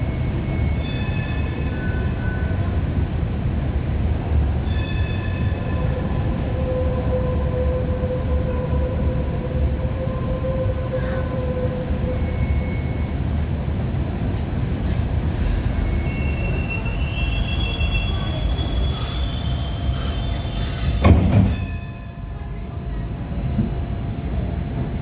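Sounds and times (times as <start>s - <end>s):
high ringing tone: 0.0s - 7.7s, 11.0s - 25.0s
train wheels rumbling: 0.0s - 25.0s.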